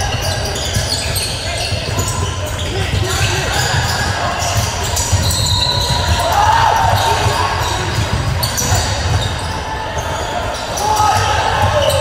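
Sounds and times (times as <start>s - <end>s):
basketball bouncing on court: 0.0s - 12.0s
shoe squeaks: 0.0s - 12.0s.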